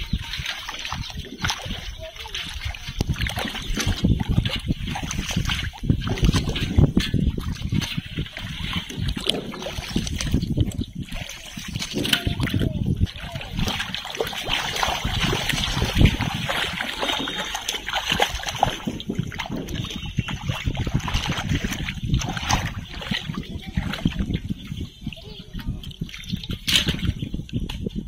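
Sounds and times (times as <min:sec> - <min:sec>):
muddy water splashing: 0:00.0 - 0:28.0.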